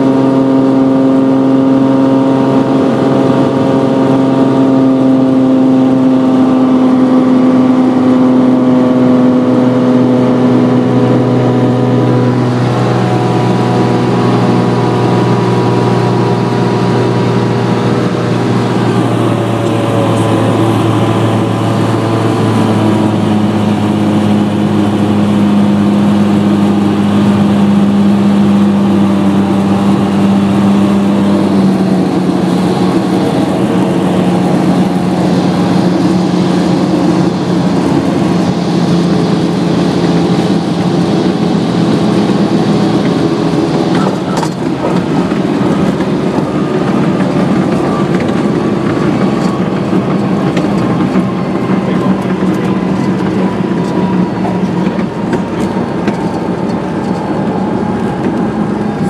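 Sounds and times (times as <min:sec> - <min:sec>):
aircraft engine and propeller drone: 0:00.0 - 0:59.0
whine falling in pitch: 0:00.0 - 0:59.0
rattling on runway: 0:09.0 - 0:59.0.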